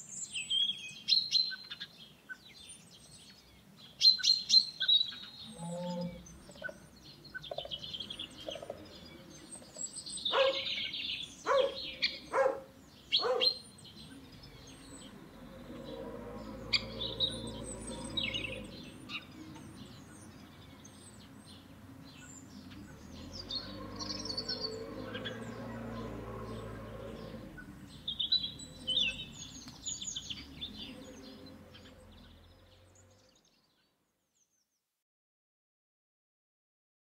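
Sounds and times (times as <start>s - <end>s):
small birds chirping: 0.0s - 34.8s.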